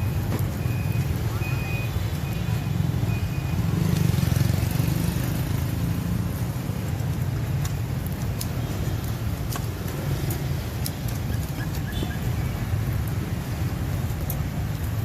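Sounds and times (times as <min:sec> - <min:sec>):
passing motorbikes and cars: 0:00.0 - 0:15.0.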